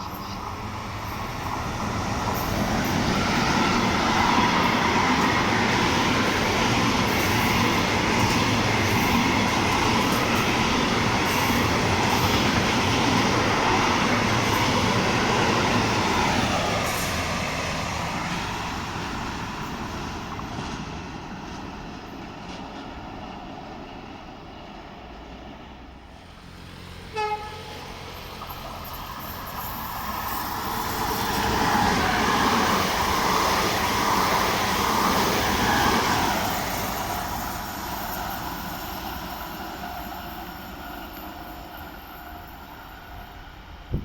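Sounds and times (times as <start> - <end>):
train passing on track: 0.0 - 44.0.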